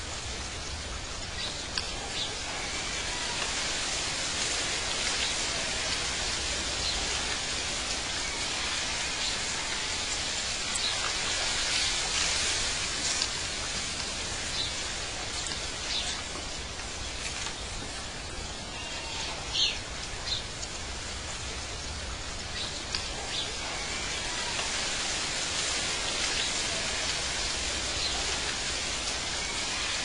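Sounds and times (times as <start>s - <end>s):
falling water rushing: 0.0s - 30.0s.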